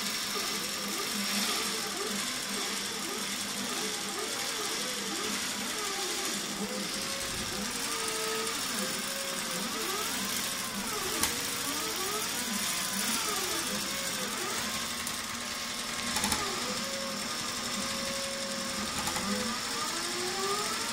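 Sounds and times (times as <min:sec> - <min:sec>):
sewing machine stitching: 0:00.0 - 0:20.9
stepper motors whining: 0:00.0 - 0:20.9.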